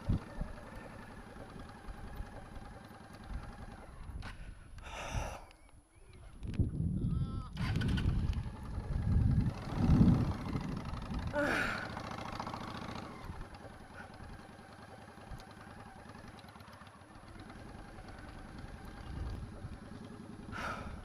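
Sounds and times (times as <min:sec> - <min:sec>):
motorcycle engine running: 0:00.0 - 0:04.6, 0:07.6 - 0:21.0.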